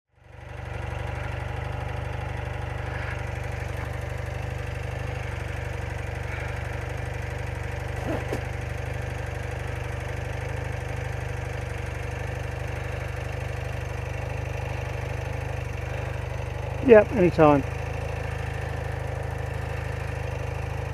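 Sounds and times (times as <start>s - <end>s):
motorcycle engine idling: 0.1s - 20.9s.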